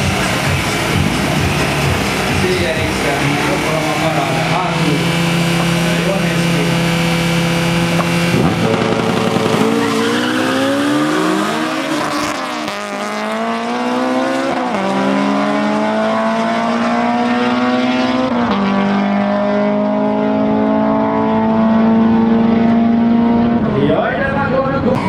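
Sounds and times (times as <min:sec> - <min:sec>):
drag racing cars accelerating: 0:00.0 - 0:25.0.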